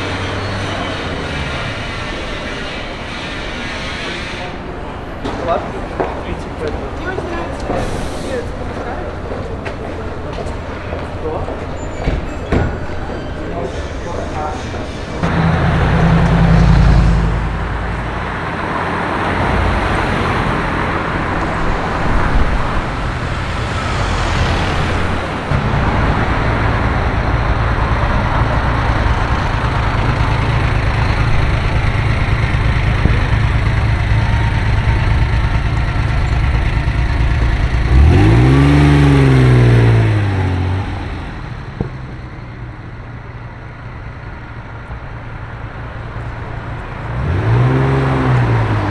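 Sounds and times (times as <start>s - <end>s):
engine revving: 0.0s - 12.2s, 14.0s - 41.6s, 47.0s - 48.9s
car engines humming: 0.0s - 48.9s.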